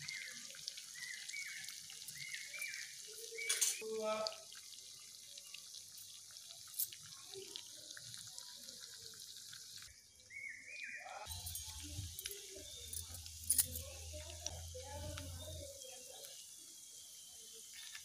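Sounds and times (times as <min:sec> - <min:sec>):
oil sizzling and popping: 0:00.0 - 0:09.9, 0:11.2 - 0:18.0.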